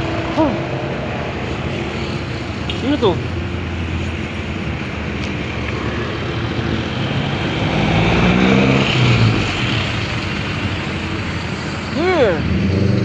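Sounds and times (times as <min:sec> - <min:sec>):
road traffic passing: 0:00.0 - 0:13.0
vehicle engine passing: 0:00.0 - 0:13.0.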